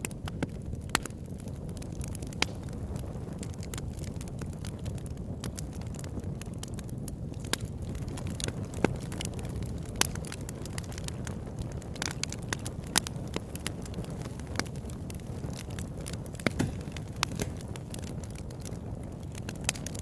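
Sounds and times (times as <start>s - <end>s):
burning wood crackling and popping: 0.0s - 20.0s
campfire flames rumbling: 0.0s - 20.0s.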